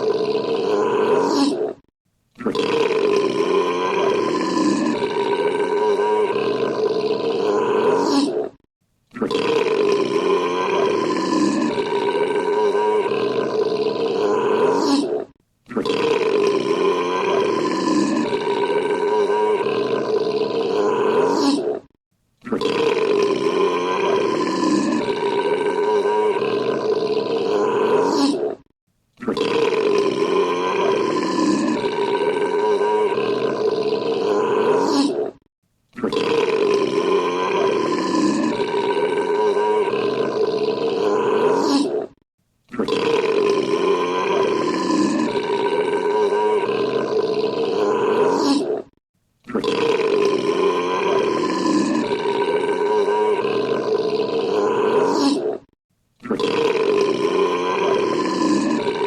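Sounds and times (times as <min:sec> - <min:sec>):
man belching: 0:00.0 - 0:01.8, 0:02.4 - 0:15.1, 0:15.7 - 0:59.0.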